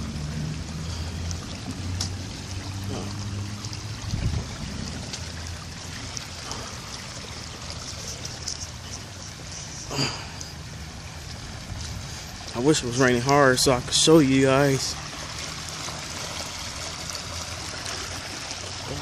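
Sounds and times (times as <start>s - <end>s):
runoff water running: 0.0s - 19.0s.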